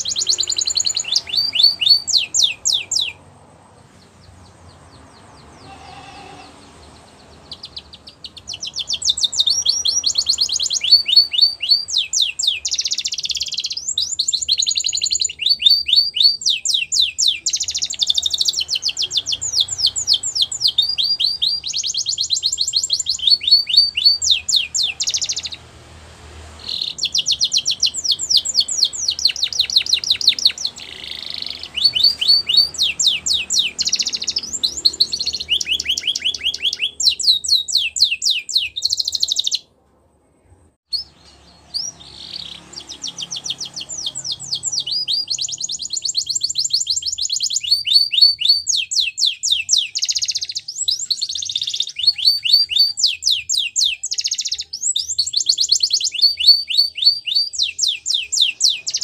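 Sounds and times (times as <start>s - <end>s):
canary singing trills: 0.0s - 25.8s, 26.5s - 39.8s, 40.9s - 59.0s.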